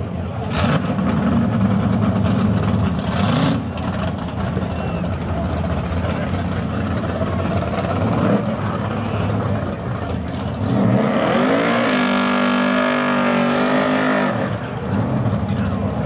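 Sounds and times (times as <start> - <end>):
car engine revving: 0.4 - 16.0.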